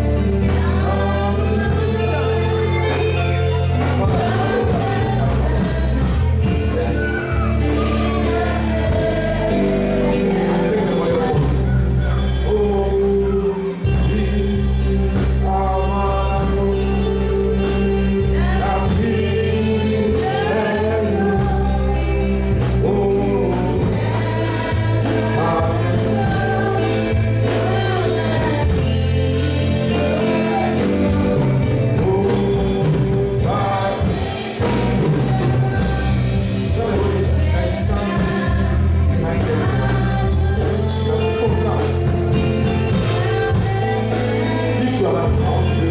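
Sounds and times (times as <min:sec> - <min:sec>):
gospel singing over a beat: 0:00.0 - 0:45.9
strong bass line: 0:00.0 - 0:45.9.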